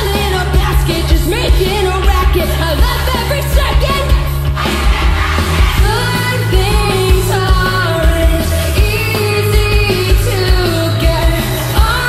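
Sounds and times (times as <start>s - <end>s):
woman singing: 0.0s - 4.3s, 5.8s - 12.0s
live pop-rock band playing: 0.0s - 12.0s.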